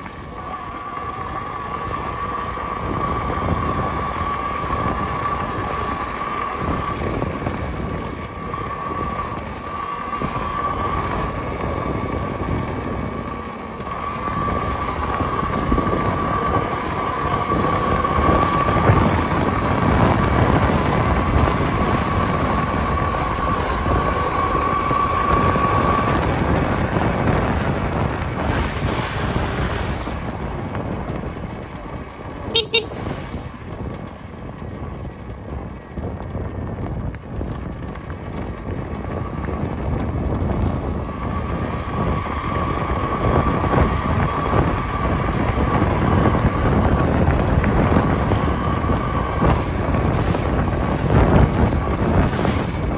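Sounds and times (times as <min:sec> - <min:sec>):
tyres rumbling on dirt: 0:00.0 - 0:52.9
wind on microphone: 0:00.0 - 0:52.9.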